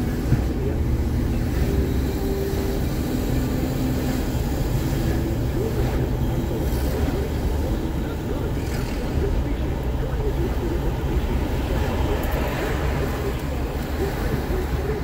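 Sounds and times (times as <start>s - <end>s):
car tyre and engine rumble: 0.0s - 15.0s.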